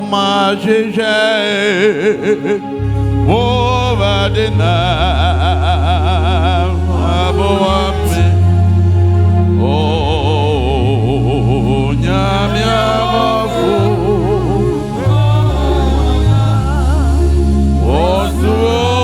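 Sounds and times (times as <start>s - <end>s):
person singing with vibrato: 0.0s - 19.0s
sustained low bass notes: 2.6s - 19.0s.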